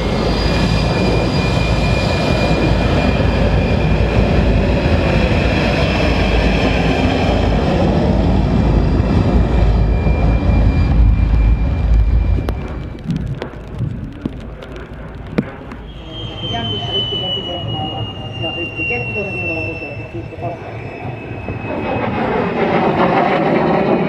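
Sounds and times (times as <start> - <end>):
jet engine rumble with whine: 0.0 - 24.0.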